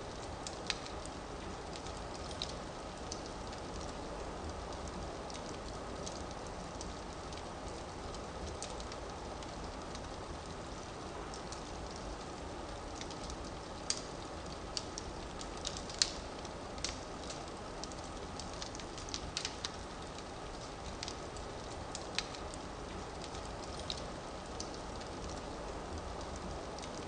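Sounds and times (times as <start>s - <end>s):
firewood crackling and popping: 0.1s - 27.0s.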